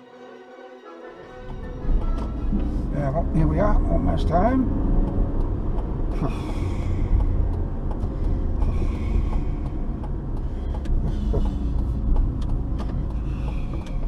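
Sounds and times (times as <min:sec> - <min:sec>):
car engine and road rumble: 0:01.3 - 0:14.0.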